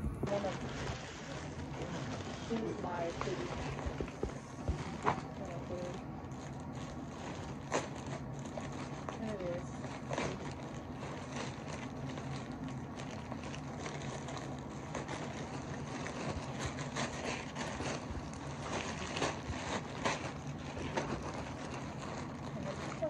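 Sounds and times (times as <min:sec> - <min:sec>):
plastic mailer bag crinkling: 0:00.0 - 0:23.0
steady low hum: 0:00.0 - 0:23.0.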